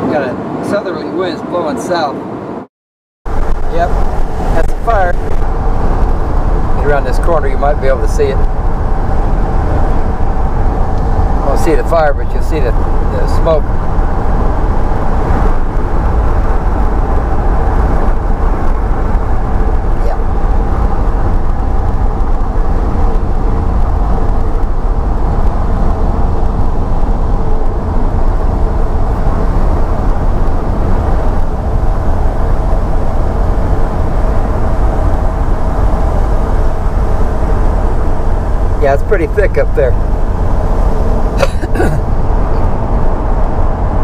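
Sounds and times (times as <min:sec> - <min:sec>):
truck engine and road noise rumble: 0:00.0 - 0:02.7, 0:03.3 - 0:44.0.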